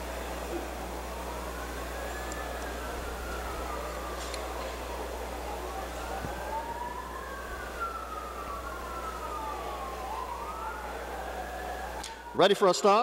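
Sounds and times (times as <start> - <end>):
steady low hum: 0.0 - 12.4
wailing siren: 0.0 - 13.0.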